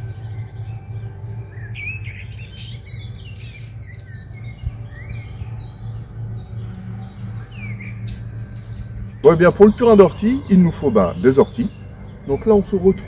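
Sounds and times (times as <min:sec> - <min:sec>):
birds singing: 0:00.0 - 0:13.0
steady low hum: 0:00.0 - 0:13.0.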